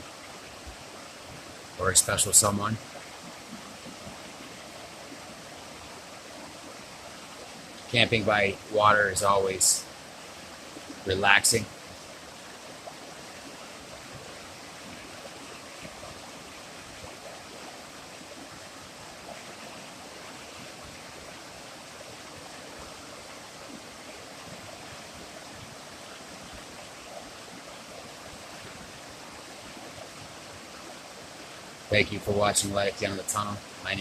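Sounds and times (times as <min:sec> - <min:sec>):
water rushing: 0:00.0 - 0:34.0.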